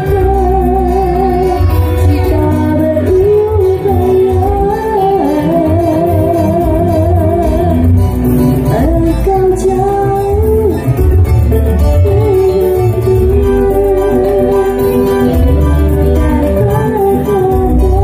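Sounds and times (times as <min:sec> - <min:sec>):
electric guitar: 0:00.0 - 0:18.0
electronic keyboard: 0:00.0 - 0:18.0
strong bass: 0:00.0 - 0:18.0
woman singing with vibrato: 0:00.0 - 0:18.0.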